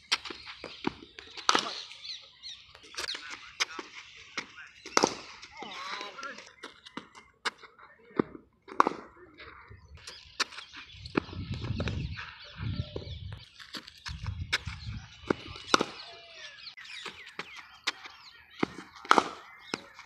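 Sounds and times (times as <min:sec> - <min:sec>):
birds calling and chirping: 0:00.0 - 0:20.0.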